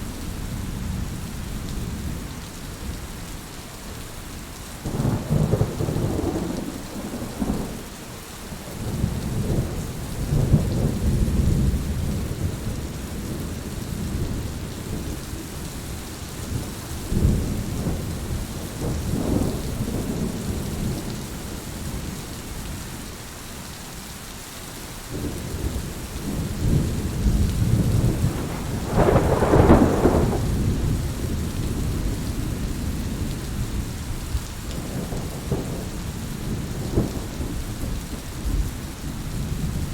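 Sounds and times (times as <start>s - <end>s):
heavy rain falling: 0.0s - 39.9s
thunder rumbling: 4.8s - 22.1s, 25.1s - 39.9s.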